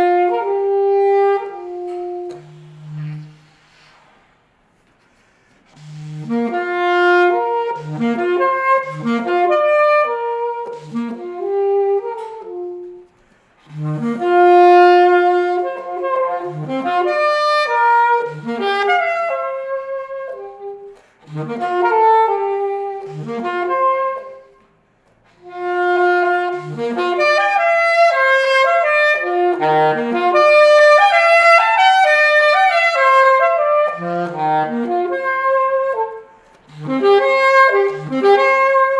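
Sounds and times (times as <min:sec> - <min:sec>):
saxophone playing jazz melody: 0:00.0 - 0:04.1, 0:05.7 - 0:38.9.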